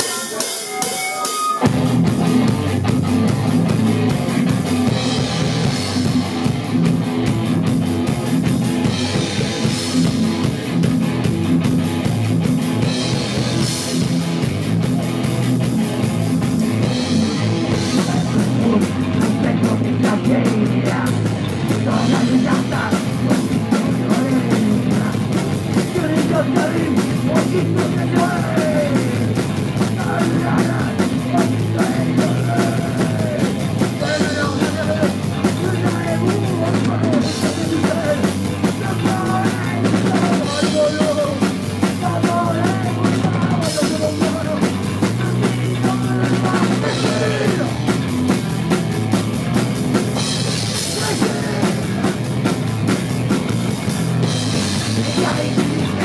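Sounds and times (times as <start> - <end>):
bass guitar: 0.0 - 56.0
distorted electric guitar: 0.0 - 56.0
drum kit: 0.0 - 56.0
fast drum hits: 1.7 - 56.0.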